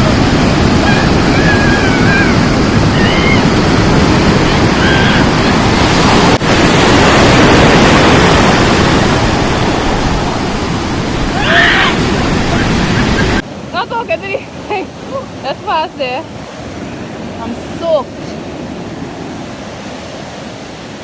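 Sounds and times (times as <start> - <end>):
waves breaking in rough surf: 0.0 - 21.0.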